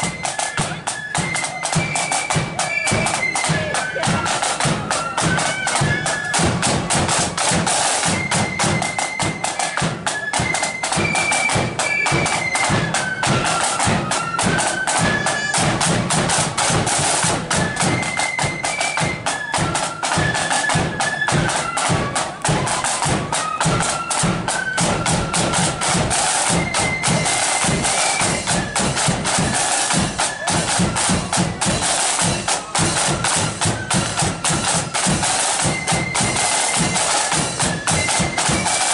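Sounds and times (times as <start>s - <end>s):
flutes playing melody: 0.0s - 38.9s
side drums and bass drum: 0.0s - 38.9s.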